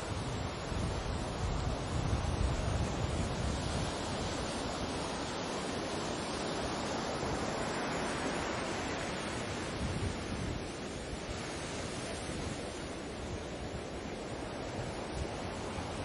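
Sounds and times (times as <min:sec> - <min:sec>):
sea surf washing: 0:00.0 - 0:16.0
wind rumbling on microphone: 0:00.0 - 0:16.0.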